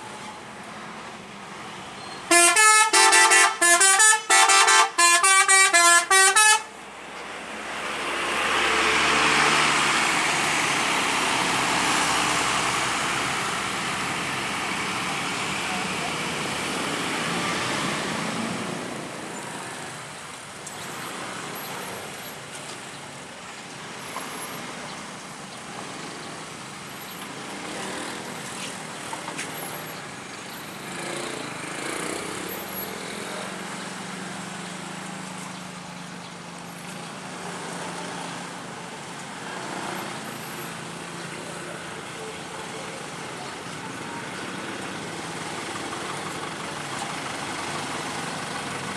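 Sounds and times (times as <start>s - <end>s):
road traffic passing: 0.0s - 48.9s.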